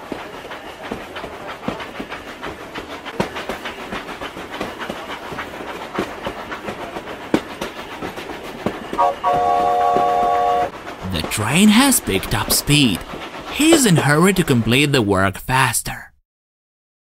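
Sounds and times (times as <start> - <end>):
train wheels clattering on rails: 0.0 - 15.5.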